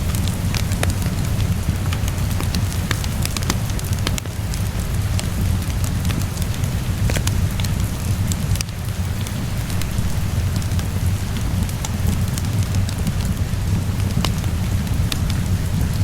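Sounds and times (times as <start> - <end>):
low rumble: 0.0 - 16.0
steady rain: 0.0 - 16.0
wood fire crackling: 0.0 - 16.0.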